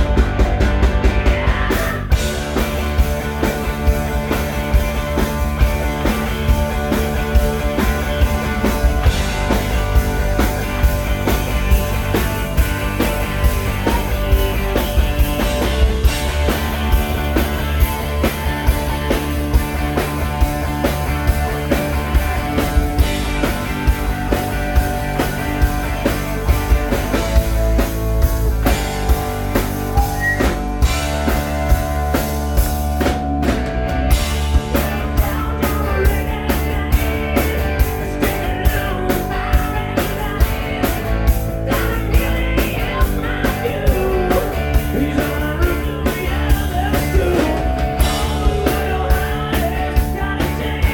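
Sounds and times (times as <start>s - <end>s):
bass: 0.0s - 50.9s
drum kit beat: 0.0s - 50.9s
guitar: 0.0s - 50.9s.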